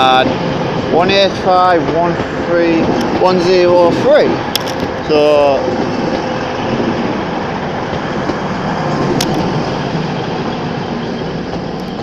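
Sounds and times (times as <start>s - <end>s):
diesel train engines idling: 0.0s - 12.0s.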